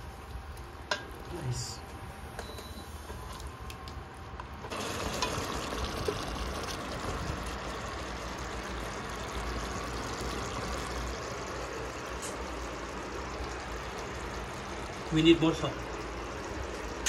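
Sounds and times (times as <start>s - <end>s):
faint sizzle: 0.0s - 17.0s
gravy bubbling in a pot: 3.1s - 17.0s.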